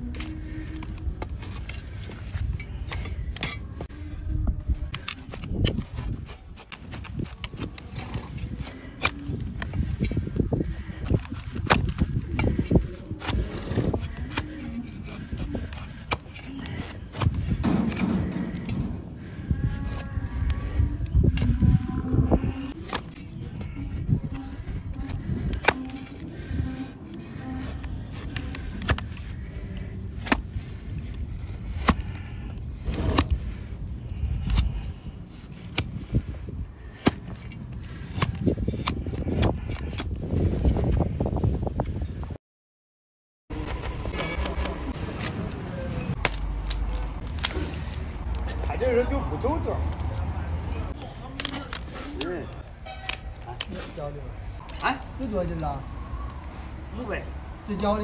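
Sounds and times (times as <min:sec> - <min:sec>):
blade scraping hoof: 0:00.0 - 0:41.0, 0:43.5 - 0:54.8.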